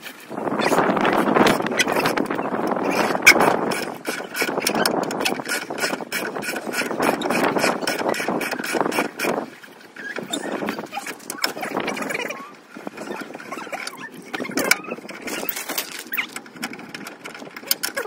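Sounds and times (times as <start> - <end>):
dense rasping noise: 0.0 - 18.0.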